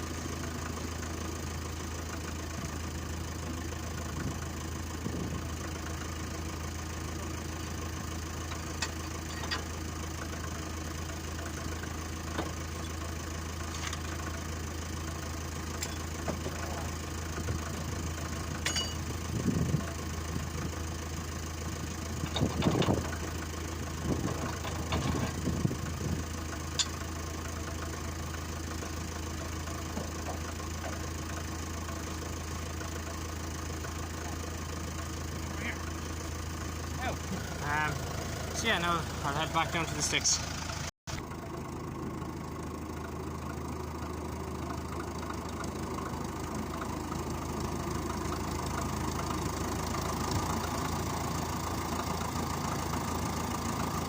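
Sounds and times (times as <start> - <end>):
diesel tractor engine idling: 0.0 - 54.0.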